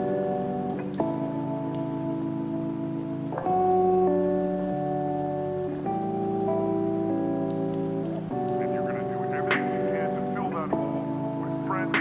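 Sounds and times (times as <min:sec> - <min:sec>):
calm music of sustained chords: 0:00.0 - 0:12.0
steady rain-like hiss: 0:00.0 - 0:12.0.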